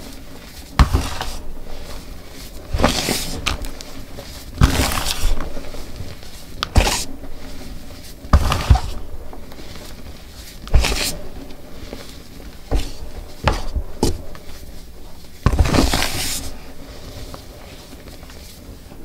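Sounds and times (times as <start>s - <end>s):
chalk blocks crunching by hand: 0.0s - 18.6s.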